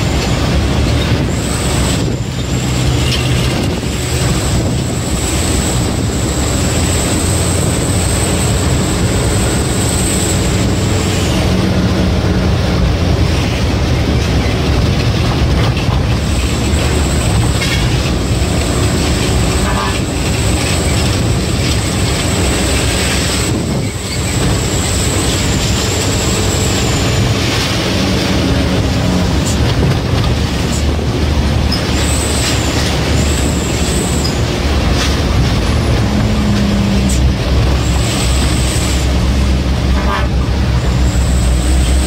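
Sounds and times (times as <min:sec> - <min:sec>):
truck diesel engine rumble: 0:00.0 - 0:42.0.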